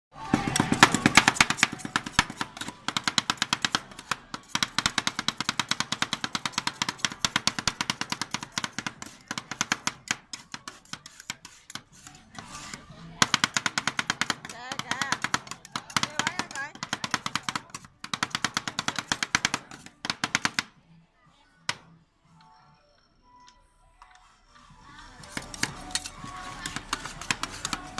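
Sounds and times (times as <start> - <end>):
metal spatulas chopping on iron plate: 0.2 - 20.6, 25.3 - 27.9.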